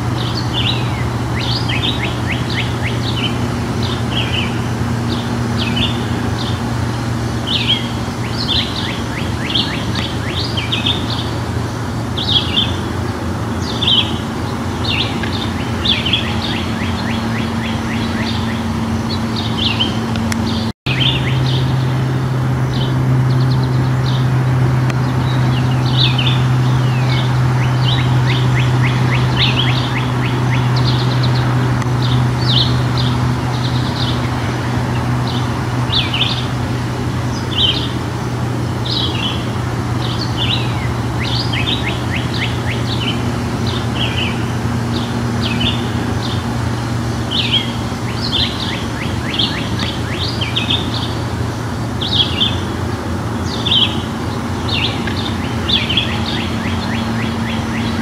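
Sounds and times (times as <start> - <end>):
songbirds chirping and singing: 0.0 - 58.0
steady low hum: 0.0 - 58.0.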